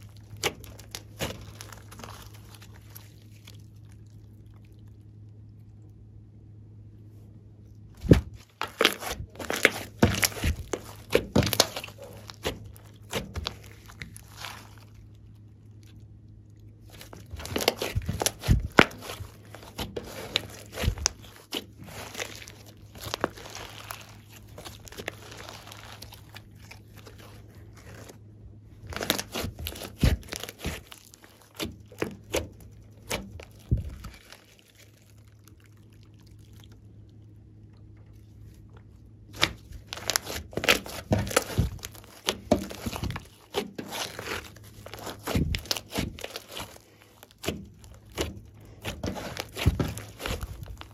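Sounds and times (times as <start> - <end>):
slime crackling and popping: 0.0 - 5.5, 8.0 - 28.2, 28.8 - 37.9, 39.3 - 50.9.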